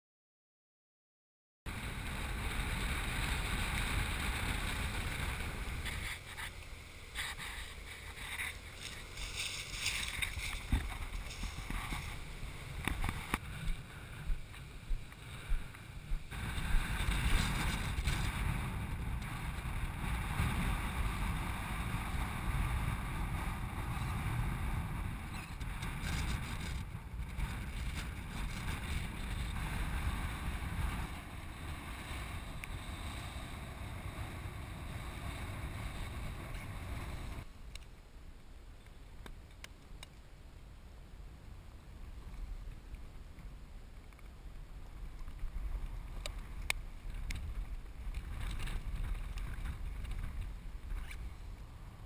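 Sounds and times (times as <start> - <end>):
wind buffeting microphone: 1.7 - 37.5, 44.5 - 52.0.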